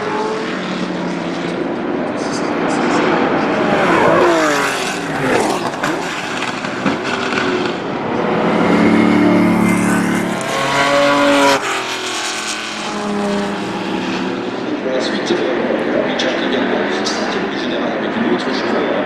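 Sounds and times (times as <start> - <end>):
racing engine accelerating: 0.0 - 17.4.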